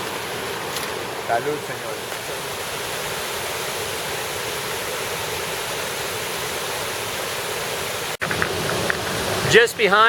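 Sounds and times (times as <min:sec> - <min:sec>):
water rushing over waterfall: 0:00.0 - 0:10.0.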